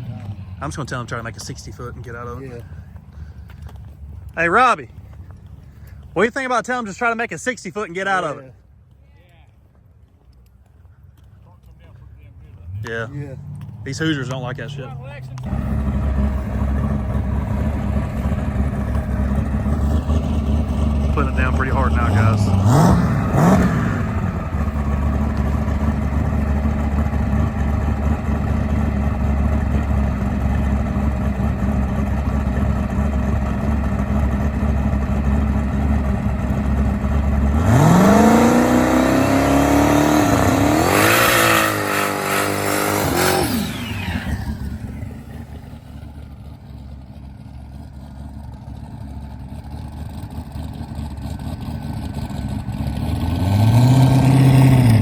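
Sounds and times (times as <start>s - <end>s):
car engine revving: 0.0s - 5.6s, 12.3s - 55.0s.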